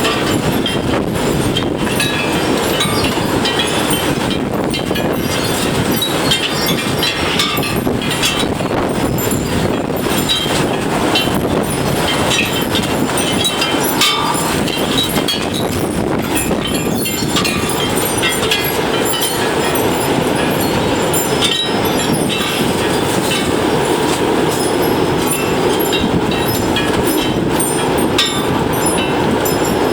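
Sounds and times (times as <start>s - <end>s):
strong gusting wind: 0.0s - 29.9s.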